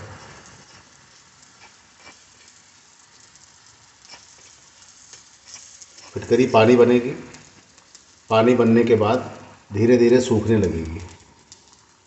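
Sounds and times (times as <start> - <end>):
faint sizzling in a pan: 0.0 - 12.0
faint stirring clicks: 0.1 - 8.8, 10.2 - 12.0.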